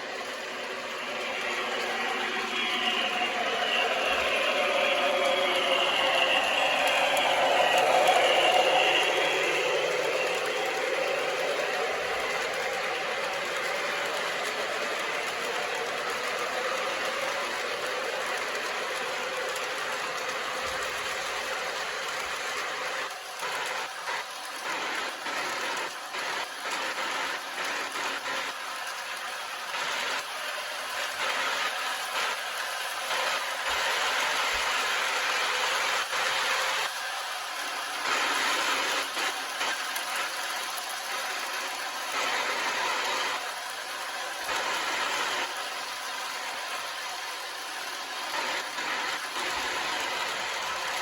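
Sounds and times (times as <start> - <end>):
model train whirring on track: 0.0 - 51.0.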